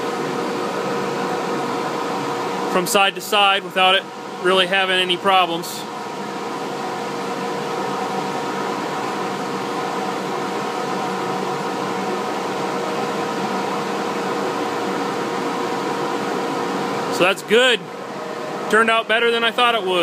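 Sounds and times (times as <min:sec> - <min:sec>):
dust collector rushing air: 0:00.0 - 0:20.0.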